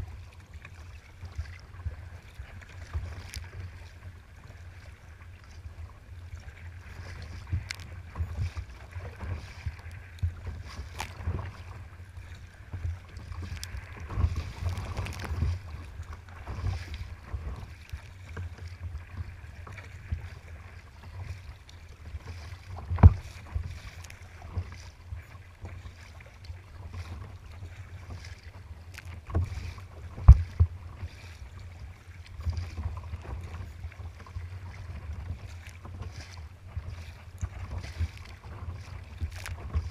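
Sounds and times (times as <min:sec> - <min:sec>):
water slapping against kayak hull: 0:00.0 - 0:39.9.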